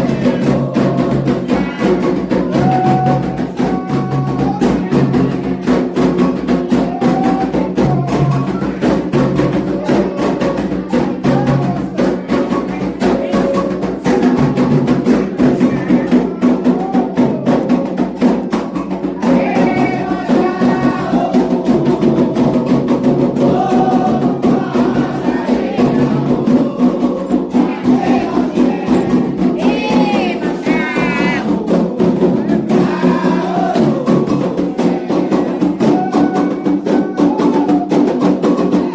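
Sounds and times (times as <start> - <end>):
hand drums playing fast rhythm: 0.0 - 38.9
people singing chants: 0.0 - 38.9.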